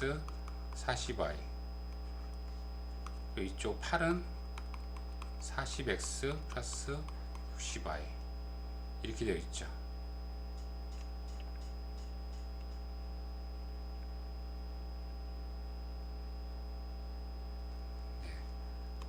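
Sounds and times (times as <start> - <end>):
electrical mains hum: 0.0 - 19.0
faint high-pitched whine: 0.0 - 19.0.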